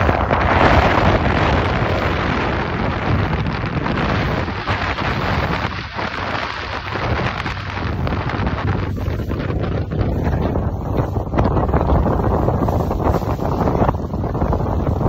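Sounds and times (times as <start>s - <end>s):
boat engine hum: 0.0s - 15.0s
rushing water: 0.0s - 15.0s
wind buffeting microphone: 0.0s - 15.0s.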